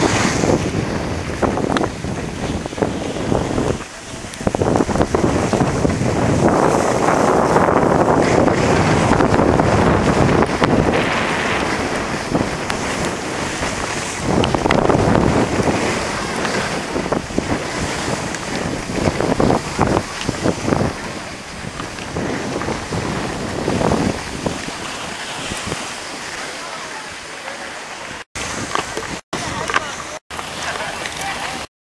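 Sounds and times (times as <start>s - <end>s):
wind rushing over microphone: 0.0s - 27.2s, 28.0s - 30.5s
skis scraping on packed snow: 0.0s - 31.7s.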